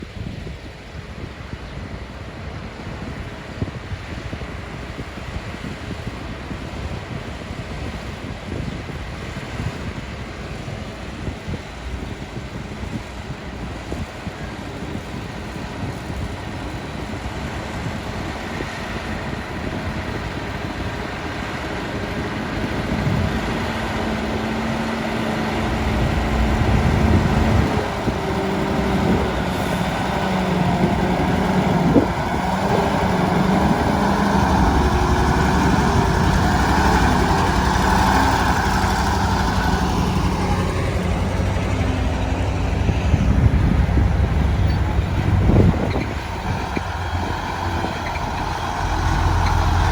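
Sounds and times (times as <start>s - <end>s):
diesel truck engine running: 2.6s - 49.9s.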